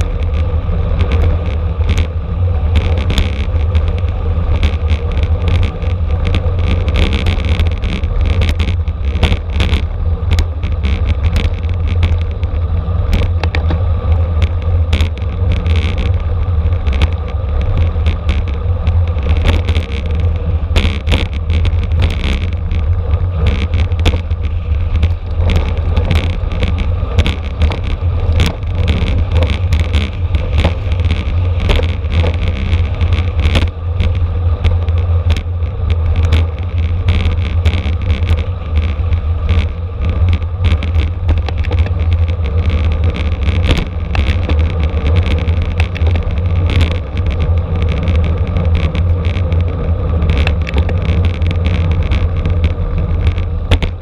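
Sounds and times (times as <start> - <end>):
road noise: 0.0 - 54.0
sharp rattles and clicks: 0.0 - 54.0
wind buffeting microphone: 0.0 - 54.0.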